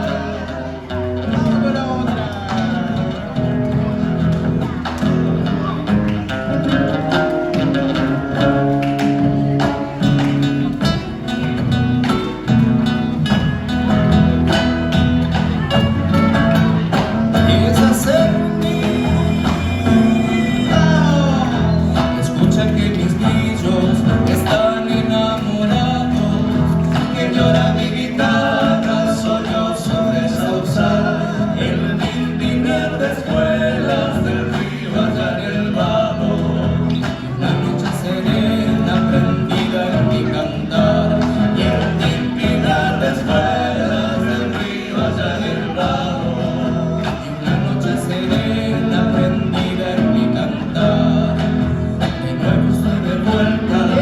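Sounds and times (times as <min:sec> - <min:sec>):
acoustic guitar: 0:00.0 - 0:54.0
person singing: 0:00.0 - 0:54.0.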